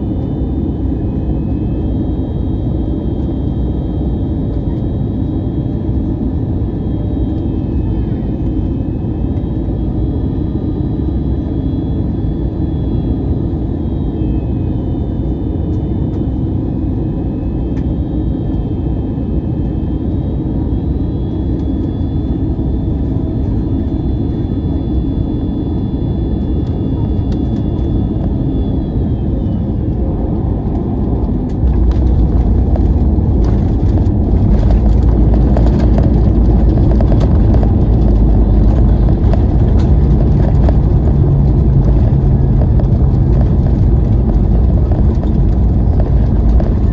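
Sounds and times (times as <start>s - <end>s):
aircraft engines and airflow roaring: 0.0s - 46.9s.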